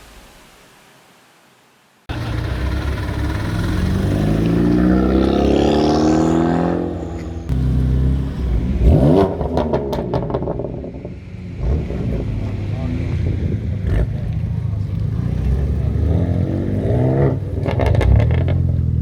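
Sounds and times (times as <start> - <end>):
car engine accelerating hard: 2.1 - 19.0
engine sharp rev: 2.1 - 19.0.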